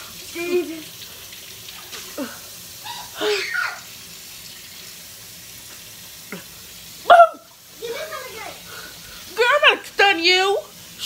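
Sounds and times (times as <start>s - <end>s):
faucet running into steel sink: 0.0s - 11.0s.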